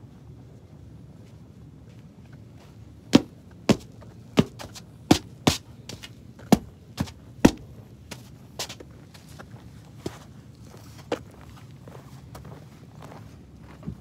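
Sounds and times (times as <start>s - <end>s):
footsteps on rubber track: 1.2s - 14.0s.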